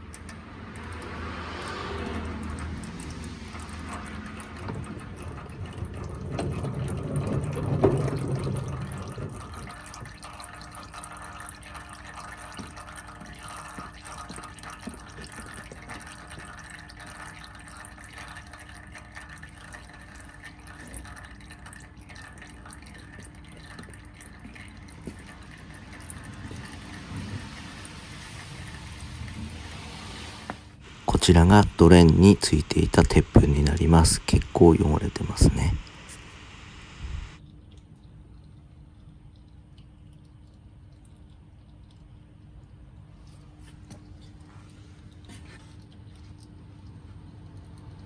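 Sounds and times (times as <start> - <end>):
oil trickling into a pan: 0.0 - 30.4, 36.4 - 48.0.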